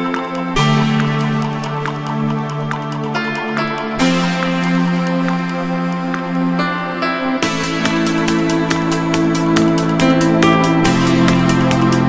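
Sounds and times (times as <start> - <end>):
ambient electronic music: 0.0 - 12.0.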